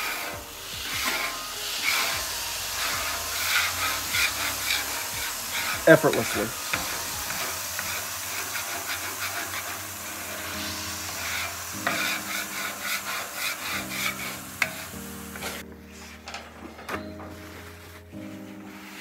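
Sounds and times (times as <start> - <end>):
water sizzling on griddle: 0.0 - 15.6
background music: 0.0 - 19.0
scraper scraping griddle: 0.0 - 19.0.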